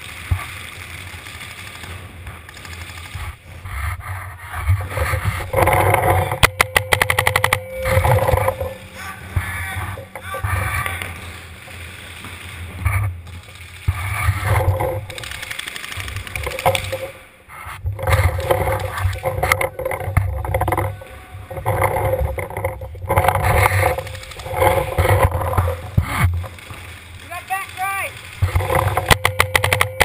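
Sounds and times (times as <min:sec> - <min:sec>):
muffled camera rumbling and rustling: 0:00.0 - 0:27.3, 0:28.1 - 0:30.0.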